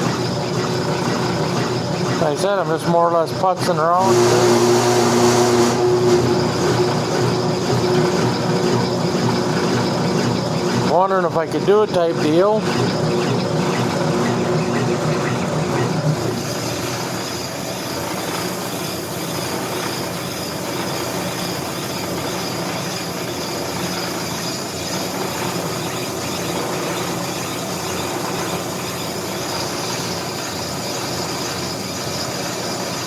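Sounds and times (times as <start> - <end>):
brake lathe grinding hiss: 1.3 - 33.0.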